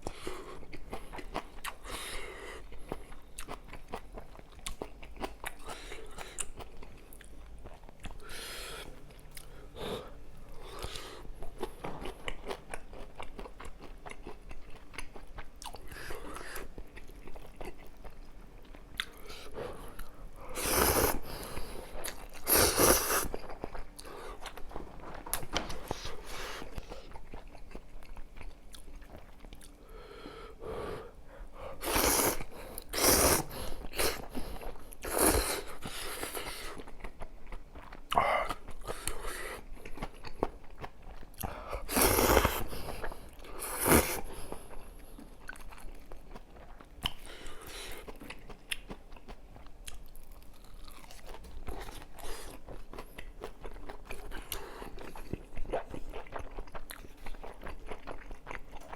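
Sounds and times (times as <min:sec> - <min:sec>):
person chewing: 0:00.0 - 0:30.3, 0:31.7 - 0:58.9.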